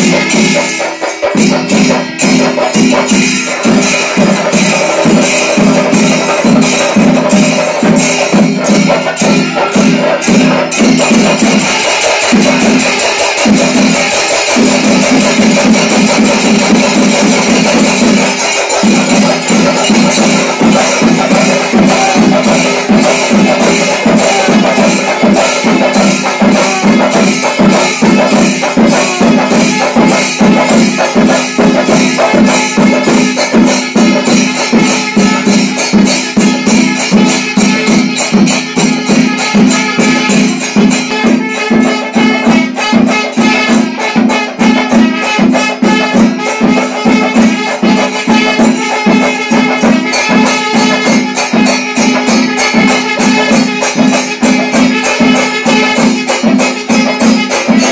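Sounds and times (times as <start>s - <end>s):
jangling metal percussion: 0.0s - 57.9s
rapid drum strokes: 0.0s - 57.9s.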